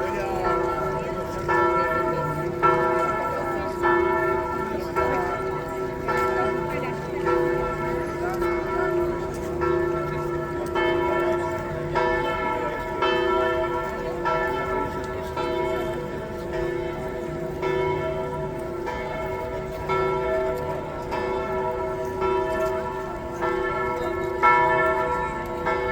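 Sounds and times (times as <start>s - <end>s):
church bells ringing: 0.0s - 25.9s.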